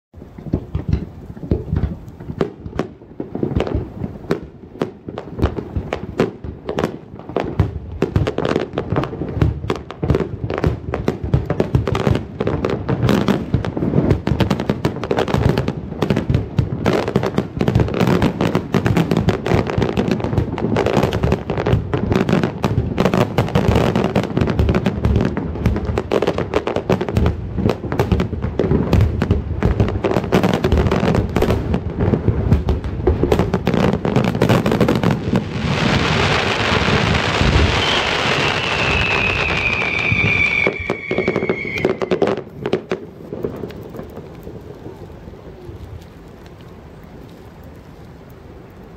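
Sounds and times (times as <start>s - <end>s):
fireworks bursting with echoes: 0.2s - 48.9s.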